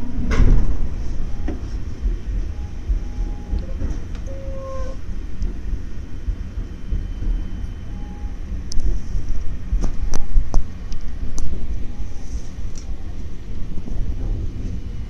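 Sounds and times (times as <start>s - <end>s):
train car rumbling: 0.0s - 15.0s.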